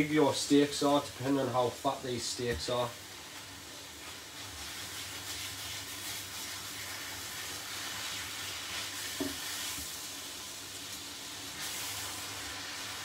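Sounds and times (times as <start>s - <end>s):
steak sizzling in a frying pan: 0.0s - 13.0s.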